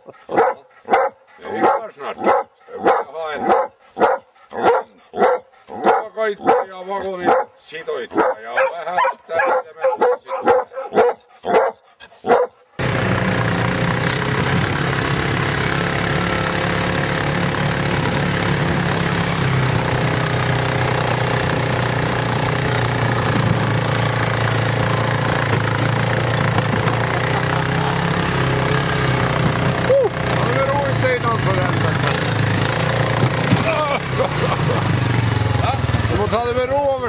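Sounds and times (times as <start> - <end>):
quad bike engine running: 0.3 - 7.4, 12.4 - 37.0.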